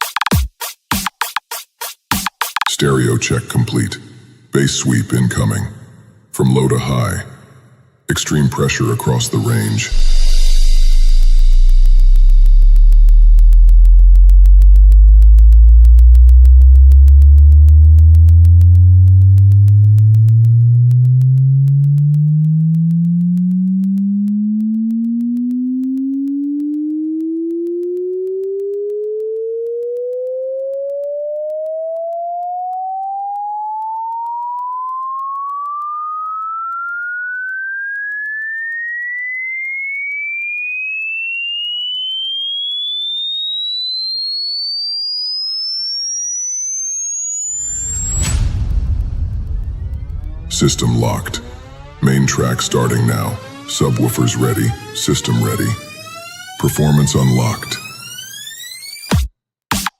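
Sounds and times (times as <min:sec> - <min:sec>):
sine test tone sweeping upward: 0:09.9 - 0:59.2.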